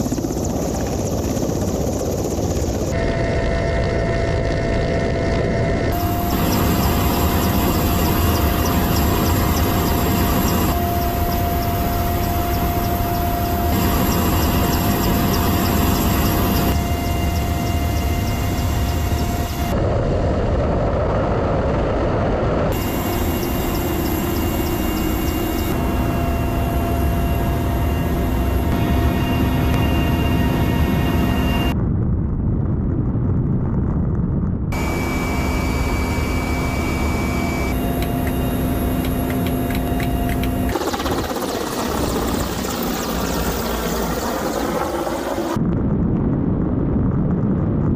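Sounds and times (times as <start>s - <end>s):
helicopter engines and rotor: 0.0s - 31.8s, 34.7s - 45.8s.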